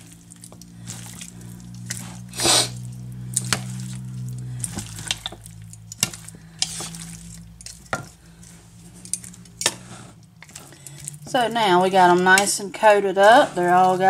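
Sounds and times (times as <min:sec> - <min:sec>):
meat squelching: 0:00.0 - 0:14.0.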